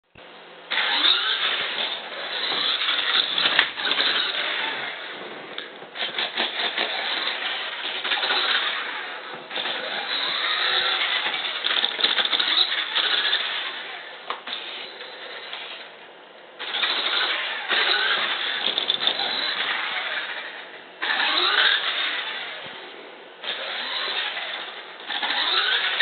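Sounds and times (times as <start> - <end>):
toy car motors whirring: 0.7 - 15.9, 16.6 - 26.0.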